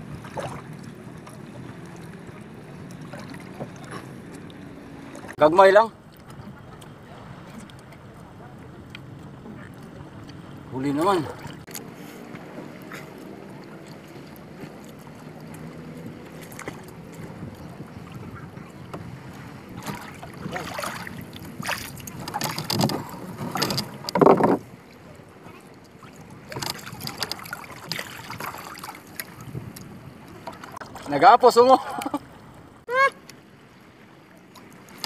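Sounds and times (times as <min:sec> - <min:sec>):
water splashing around canoe: 0:00.0 - 0:35.0.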